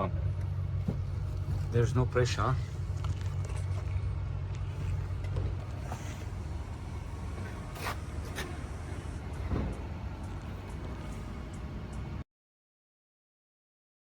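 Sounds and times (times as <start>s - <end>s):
vehicle engine idling: 0.2s - 12.2s.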